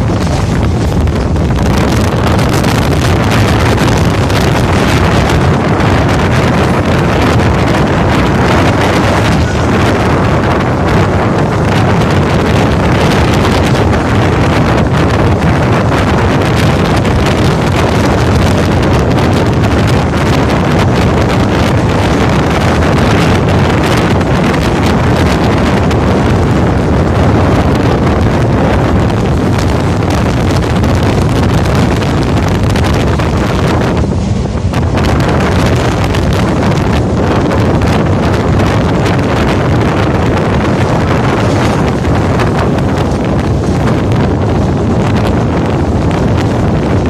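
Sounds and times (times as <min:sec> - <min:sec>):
train rumbling over bridge: 0:00.0 - 0:47.0
wind buffeting microphone: 0:00.0 - 0:47.0.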